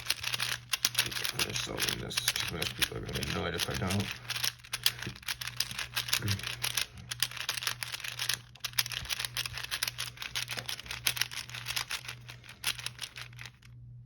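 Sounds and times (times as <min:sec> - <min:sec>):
puzzle cube clicking: 0:00.0 - 0:13.5
low electrical hum: 0:00.0 - 0:14.0.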